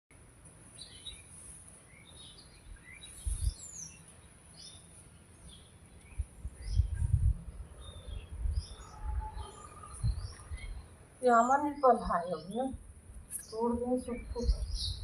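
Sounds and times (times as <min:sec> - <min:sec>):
birds chirping: 0:00.8 - 0:15.0.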